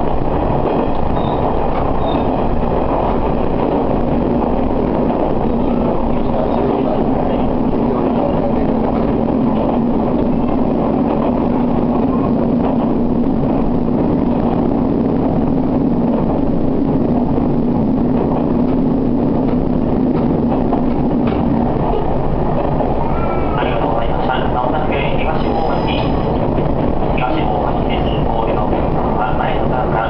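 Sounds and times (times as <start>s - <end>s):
railcar engine drone: 0.0s - 30.0s
wheels rumbling on rail: 0.0s - 30.0s.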